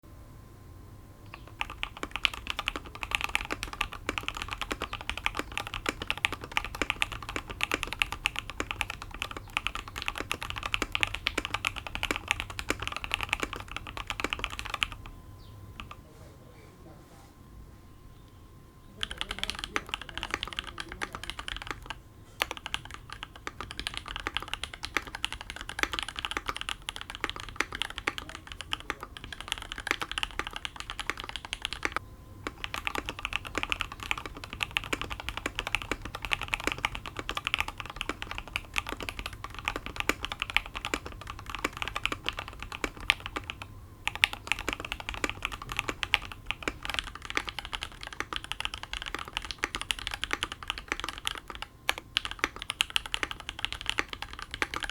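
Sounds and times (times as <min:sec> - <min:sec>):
fast typing on mechanical keyboard: 0:01.3 - 0:15.1, 0:15.8 - 0:16.0, 0:19.0 - 0:54.9.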